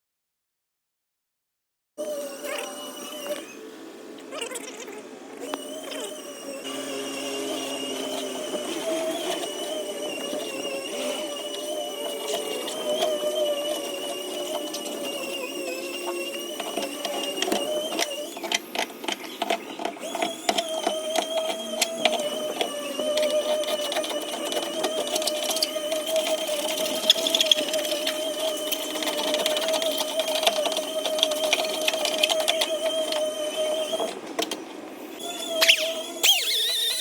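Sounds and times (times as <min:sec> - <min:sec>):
steady high whine: 0:02.2 - 0:37.0.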